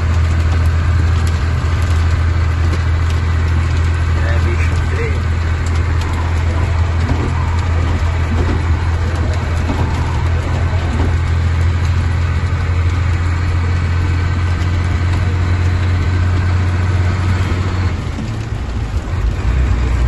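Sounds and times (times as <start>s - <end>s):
heavy rain on road and windshield: 0.0s - 20.0s
truck engine droning: 0.0s - 20.0s.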